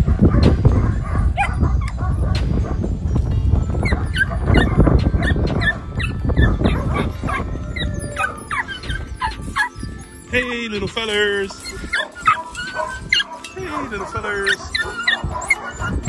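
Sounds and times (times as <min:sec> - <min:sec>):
dogs barking and yipping: 0:00.0 - 0:16.0
dogs whining: 0:00.0 - 0:16.0.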